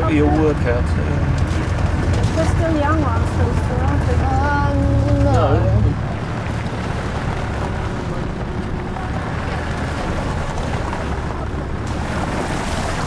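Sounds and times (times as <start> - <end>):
vehicle driving over rough lane: 0.0 - 13.0.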